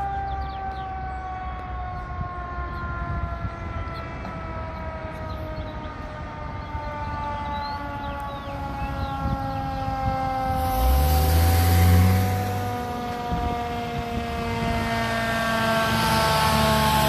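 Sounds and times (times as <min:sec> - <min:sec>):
ambulance engine passing: 0:00.0 - 0:17.0
fire engine siren wailing: 0:00.0 - 0:17.0.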